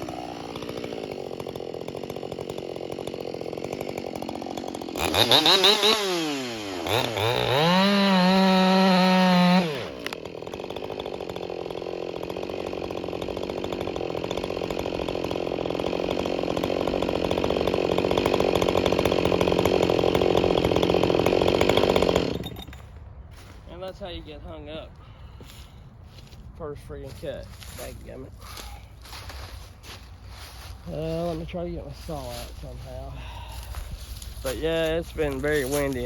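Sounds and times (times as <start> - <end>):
chainsaw idling and revving: 0.0 - 36.0.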